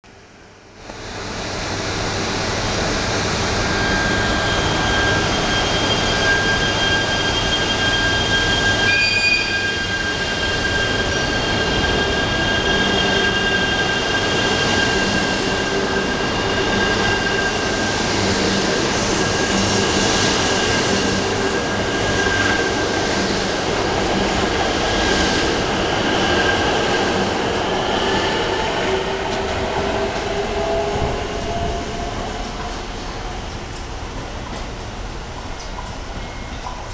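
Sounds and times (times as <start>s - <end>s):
train wheel and rail noise: 0.1s - 36.9s
train electrical whine: 0.8s - 36.9s.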